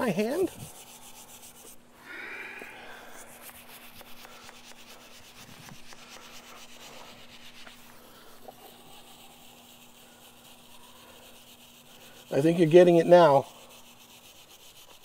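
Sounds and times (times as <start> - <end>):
brush scrubbing shell: 0.0 - 1.8, 2.7 - 15.0.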